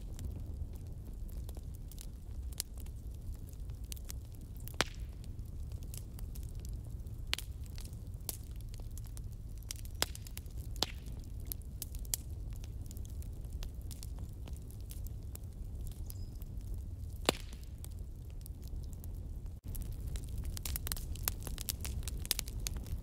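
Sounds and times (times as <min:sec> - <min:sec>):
fire low rumble: 0:00.0 - 0:23.0
fire pops and crackles: 0:00.0 - 0:23.0.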